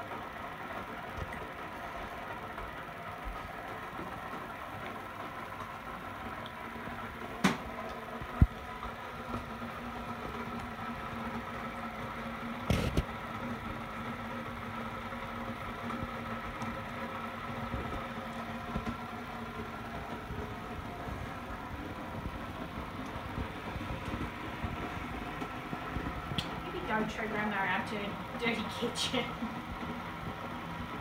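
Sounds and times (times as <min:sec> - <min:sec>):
appliance humming: 0:00.0 - 0:31.0.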